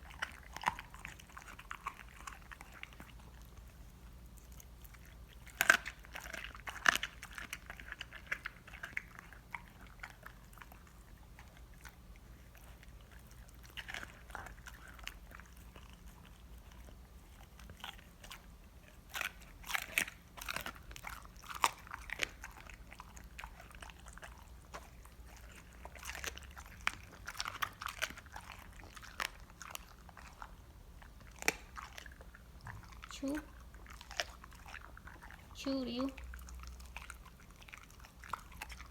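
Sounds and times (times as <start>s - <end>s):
dog chewing crunching bones: 0.0s - 38.9s.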